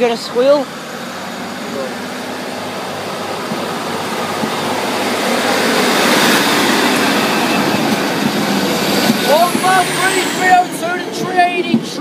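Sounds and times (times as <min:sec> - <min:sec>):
diesel train engine: 0:00.0 - 0:12.0
train wheel noise: 0:00.0 - 0:12.0.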